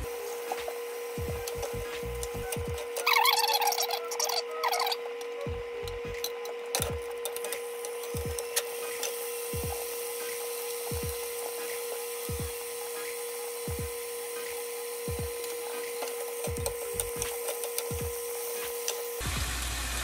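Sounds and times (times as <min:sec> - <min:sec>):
whining hum: 0:00.0 - 0:20.0.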